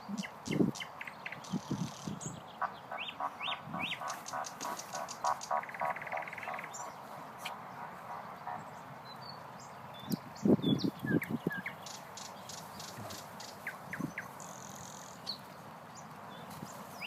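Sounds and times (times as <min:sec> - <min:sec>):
nightingale singing: 0:00.0 - 0:07.9, 0:08.5 - 0:17.0.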